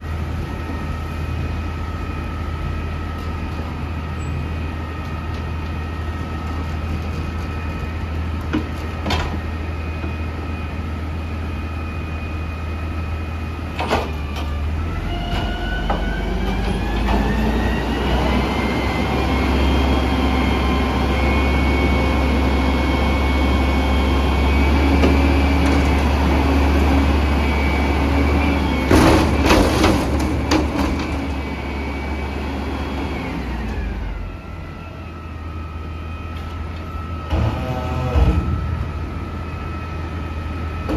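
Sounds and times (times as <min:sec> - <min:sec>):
garbage truck engine hum: 0:00.0 - 0:40.9.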